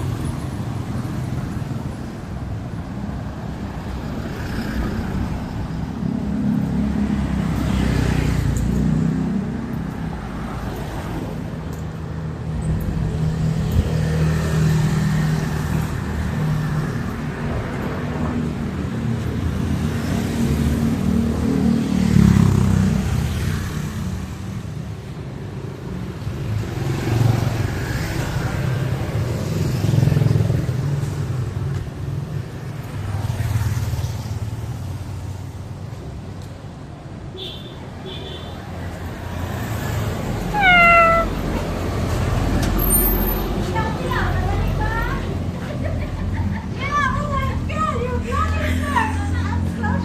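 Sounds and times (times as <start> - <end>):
motor vehicles passing close: 0.0 - 50.0.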